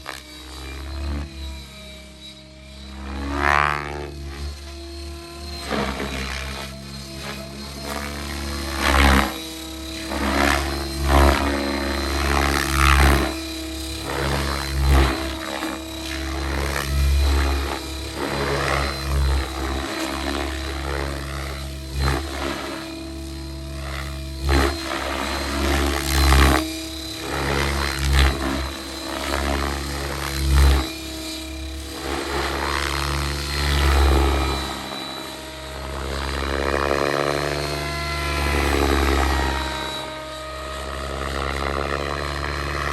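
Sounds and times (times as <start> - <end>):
helicopter rotor noise: 0.0 - 42.9
motor and gear whine: 0.0 - 42.9.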